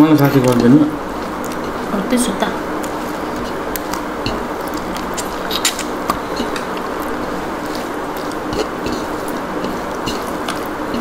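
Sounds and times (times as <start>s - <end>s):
background hiss and hum: 0.0s - 11.0s
chewing smacks: 0.3s - 1.9s, 2.7s - 11.0s.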